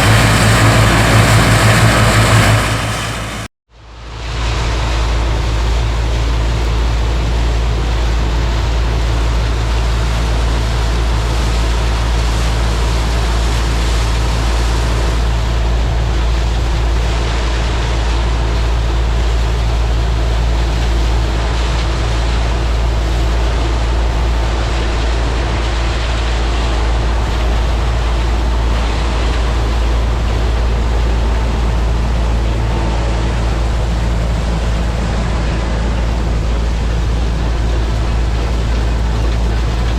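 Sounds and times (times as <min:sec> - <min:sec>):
combine harvester running: 0:00.0 - 0:39.9
wind rumble on microphone: 0:00.0 - 0:39.9.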